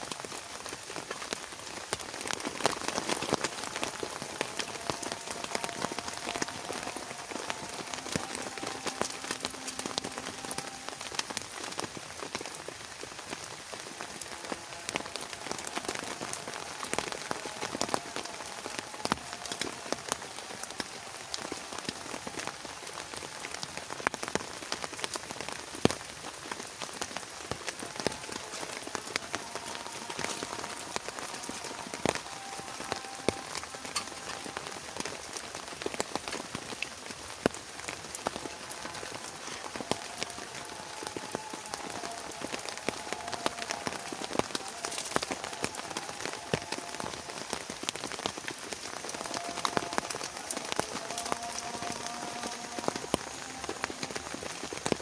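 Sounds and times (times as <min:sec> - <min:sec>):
heavy rain falling: 0:00.0 - 0:55.0
raindrops hitting a surface: 0:00.0 - 0:55.0.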